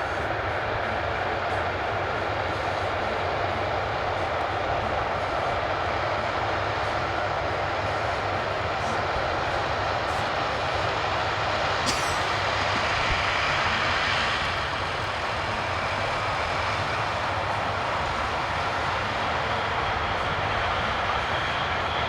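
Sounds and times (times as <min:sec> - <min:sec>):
harvest machinery engine hum: 0:00.0 - 0:22.0.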